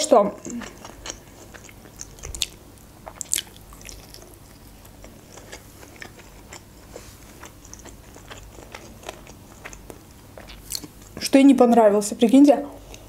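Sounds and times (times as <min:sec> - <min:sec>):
chewing with mouth clicks: 0:00.4 - 0:11.2.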